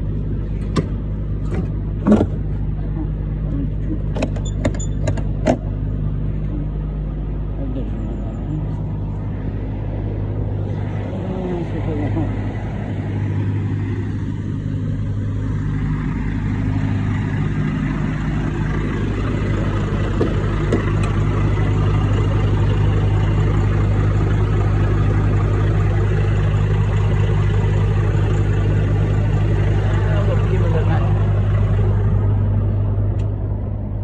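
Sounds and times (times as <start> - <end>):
truck engine droning: 0.0 - 34.0.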